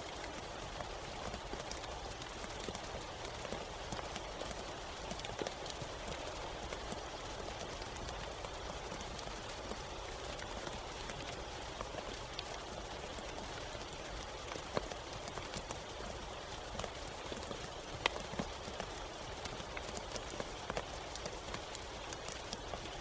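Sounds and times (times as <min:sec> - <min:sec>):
raindrops ticking on a surface: 0:00.0 - 0:23.0.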